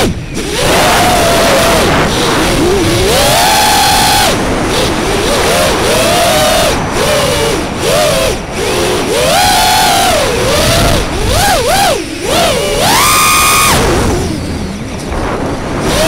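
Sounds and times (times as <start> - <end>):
drone motors whining: 0.0 - 16.0
propeller wash and wind rush: 0.0 - 16.0.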